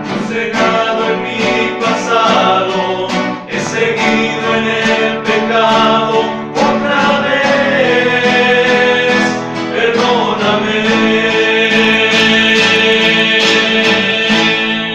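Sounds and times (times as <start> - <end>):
men singing a hymn: 0.0 - 14.9
strummed acoustic guitars: 0.0 - 14.9.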